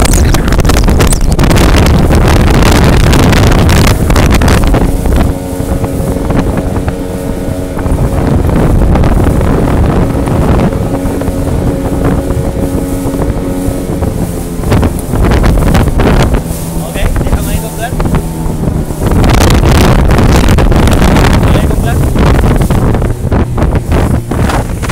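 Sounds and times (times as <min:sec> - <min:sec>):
boat engine running: 0:00.0 - 0:24.9
wind buffeting microphone: 0:00.0 - 0:24.9.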